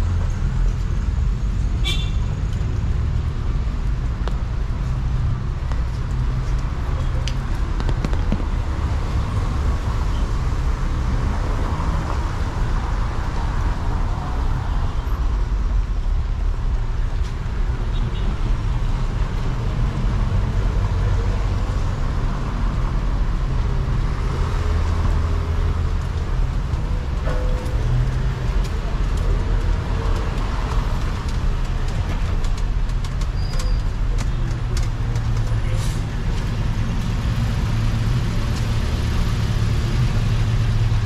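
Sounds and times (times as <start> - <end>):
traffic on wet street: 0.0 - 41.0.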